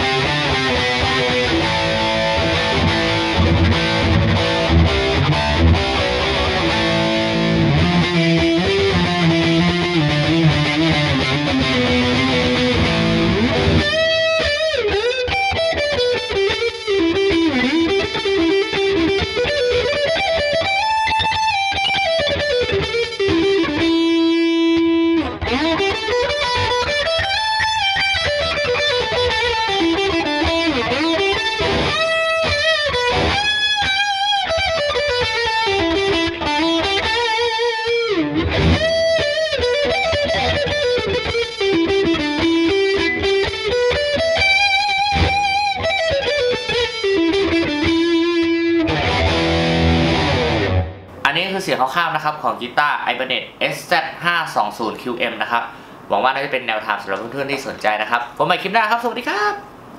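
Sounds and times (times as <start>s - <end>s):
distorted electric guitar: 0.0s - 51.3s.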